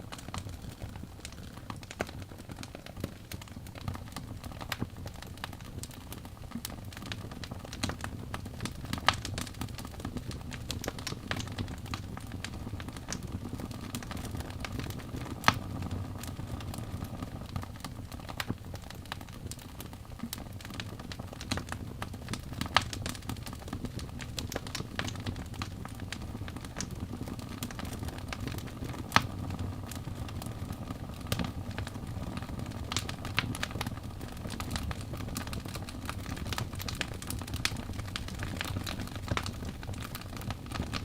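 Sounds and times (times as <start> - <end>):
fire crackling and popping: 0.0 - 41.0
low rumble of flame: 0.0 - 41.0.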